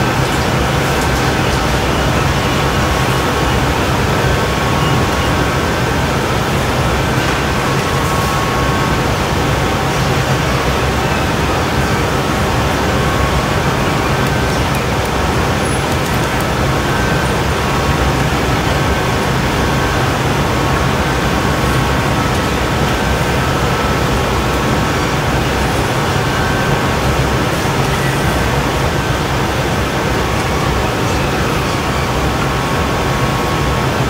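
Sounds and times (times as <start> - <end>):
gas burners and ventilation roaring: 0.0 - 34.0.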